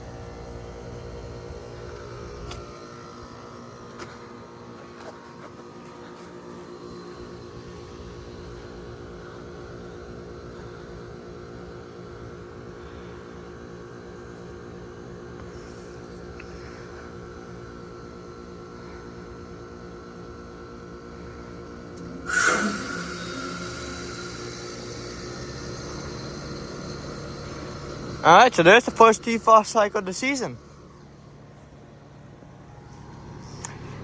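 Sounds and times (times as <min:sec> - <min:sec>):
heat pump compressor hum: 0:00.0 - 0:34.0.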